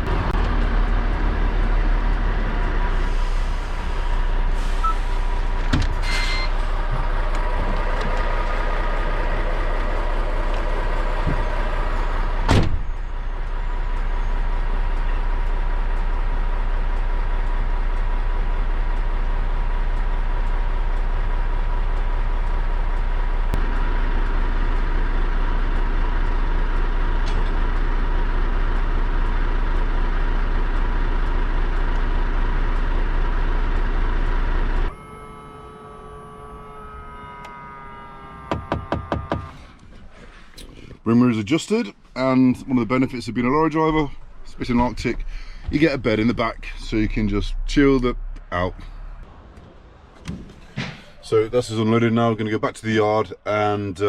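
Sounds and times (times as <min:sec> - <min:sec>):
diesel lorry engine idling: 0:00.0 - 0:54.0.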